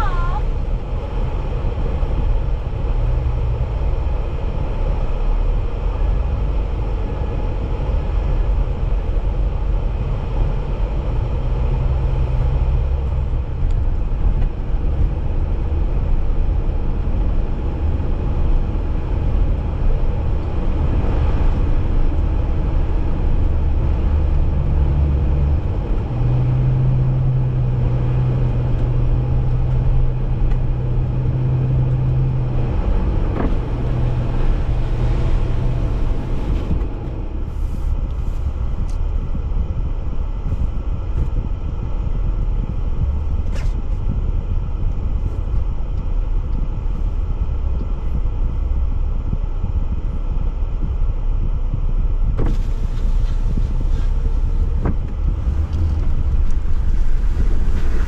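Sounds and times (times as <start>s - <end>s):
car engine droning: 0.0s - 58.0s
road and wind noise: 0.0s - 58.0s.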